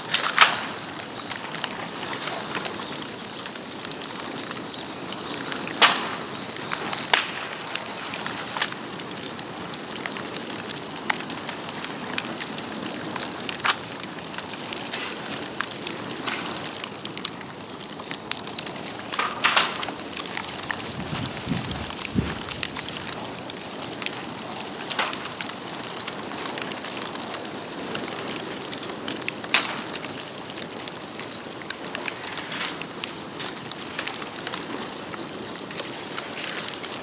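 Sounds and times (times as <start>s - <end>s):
bonfire crackling and popping: 0.0s - 37.0s.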